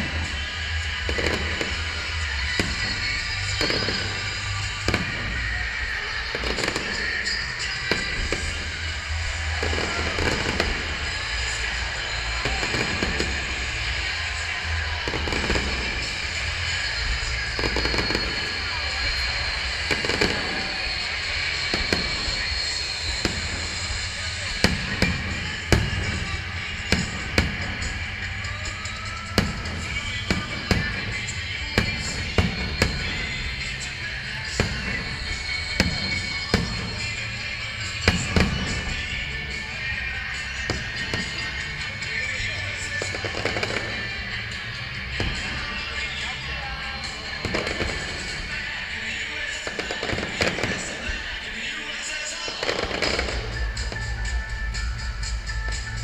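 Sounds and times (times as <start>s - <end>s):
fireworks bangs: 0.0s - 56.0s
music playing: 0.0s - 56.0s.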